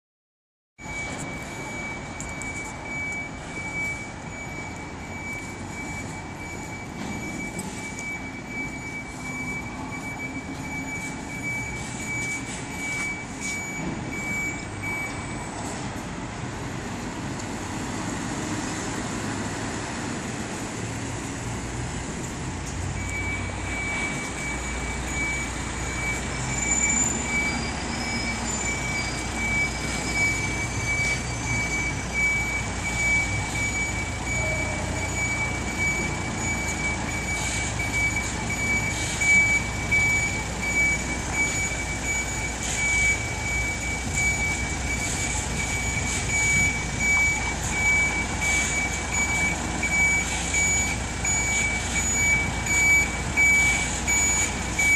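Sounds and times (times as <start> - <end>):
reverse alarm beeping: 0.8 - 16.1, 22.8 - 54.9
diesel engine rumble: 0.8 - 54.9
street noise: 0.8 - 54.9.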